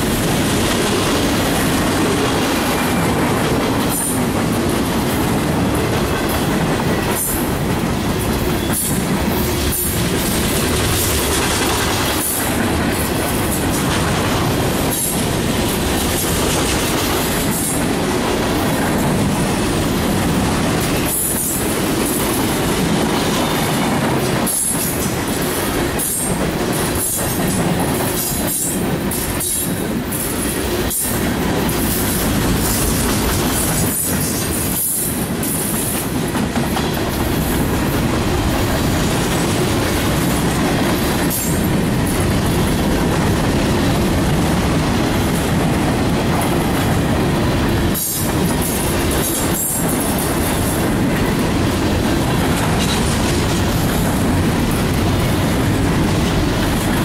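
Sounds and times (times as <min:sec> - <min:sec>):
freight train wheels on rails: 0:00.0 - 0:57.0.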